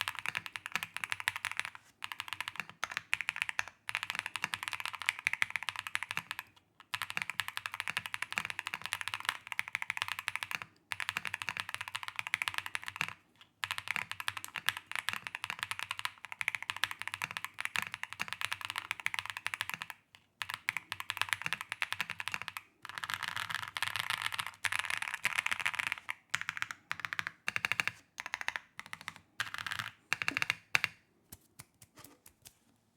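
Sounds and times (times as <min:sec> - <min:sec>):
mechanical keyboard typing: 0:00.0 - 0:31.0.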